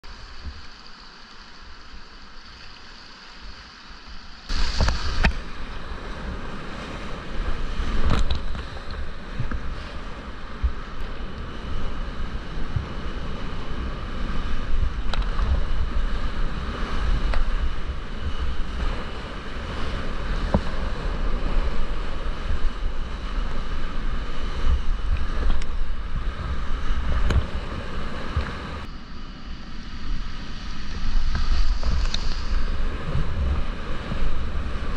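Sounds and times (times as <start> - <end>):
water splashing: 0.0 - 29.0, 29.8 - 34.9
whitewater rapids: 0.0 - 34.9
wind buffeting microphone: 4.5 - 28.9, 29.8 - 34.9.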